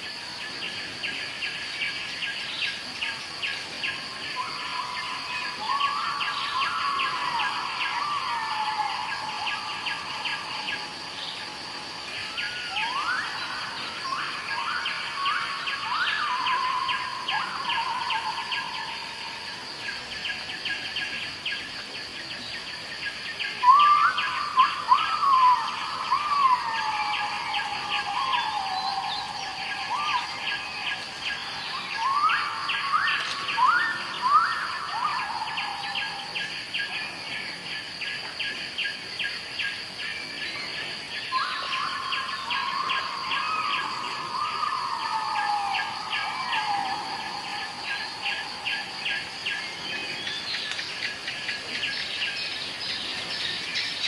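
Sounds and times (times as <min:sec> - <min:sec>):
birds with sweeping calls: 0:00.0 - 0:21.7, 0:23.0 - 0:37.5, 0:38.5 - 0:54.0
insects trilling: 0:00.0 - 0:54.0.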